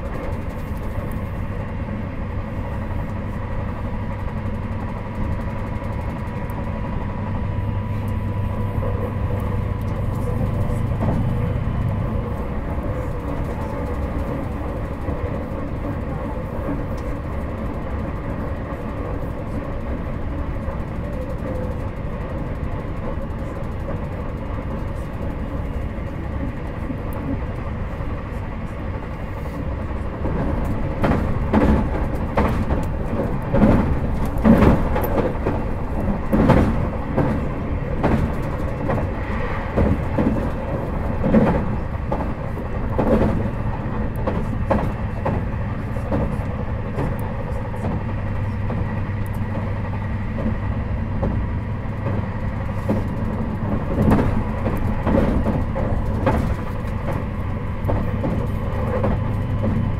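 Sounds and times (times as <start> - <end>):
steady motor tones: 0.0 - 59.9
train running rumble: 0.0 - 59.9
wheels clattering on track: 0.0 - 59.9.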